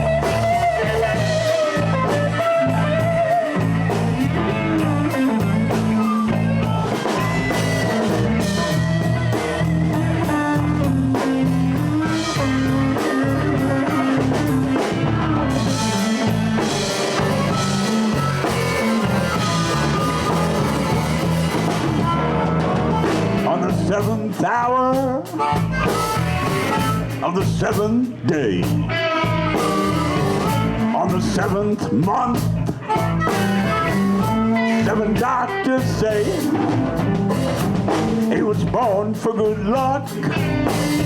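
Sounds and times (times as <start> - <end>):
bass: 0.0 - 41.0
drum kit: 0.0 - 41.0
electric guitar: 0.0 - 41.0.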